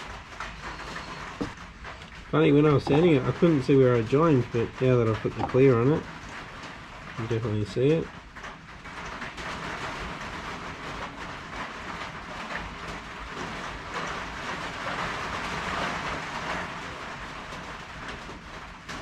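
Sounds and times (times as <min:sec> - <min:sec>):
rain on a tin roof: 0:00.0 - 0:19.0.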